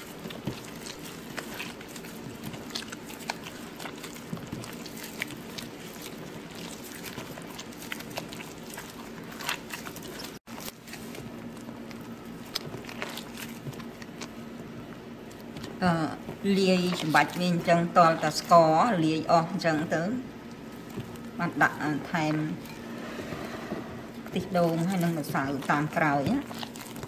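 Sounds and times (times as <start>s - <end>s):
hand squishing wet eggs: 0.0s - 27.0s.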